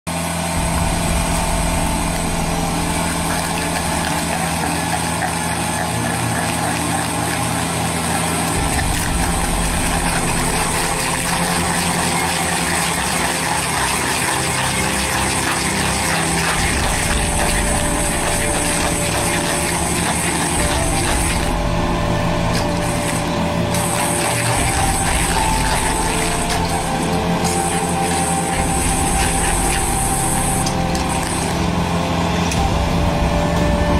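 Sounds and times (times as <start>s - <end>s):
stump grinder shredding wood: 0.1s - 33.6s
diesel engine running under load: 0.1s - 33.9s.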